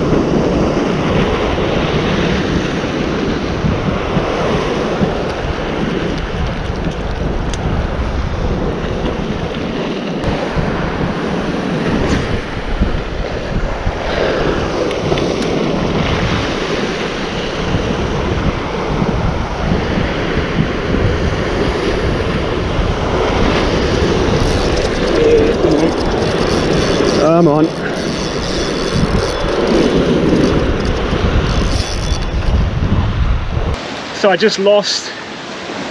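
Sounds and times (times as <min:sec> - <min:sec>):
wind buffeting microphone: 0:00.0 - 0:33.8
waves breaking on rocky shore: 0:00.0 - 0:35.9.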